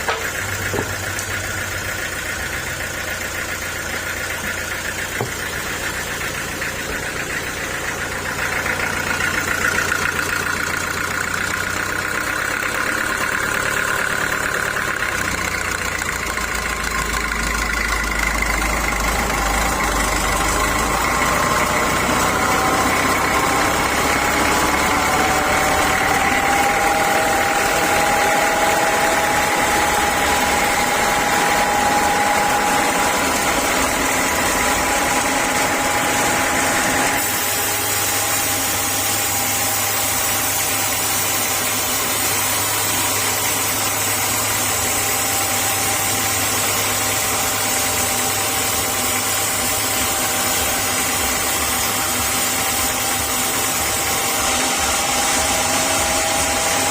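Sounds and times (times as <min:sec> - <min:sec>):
sawmill saw machinery drone: 0:00.0 - 0:56.9.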